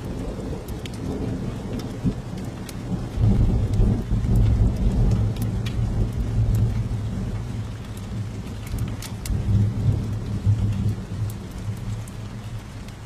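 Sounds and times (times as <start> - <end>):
fire crackling: 0.0 - 13.0
low thunder rumble: 0.0 - 13.0
steady rain: 0.0 - 13.0.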